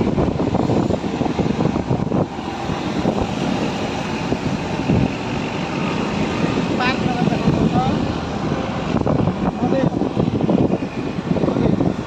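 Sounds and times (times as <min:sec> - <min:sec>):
vehicle road and engine noise: 0:00.0 - 0:12.0
wind buffeting microphone: 0:00.0 - 0:12.0.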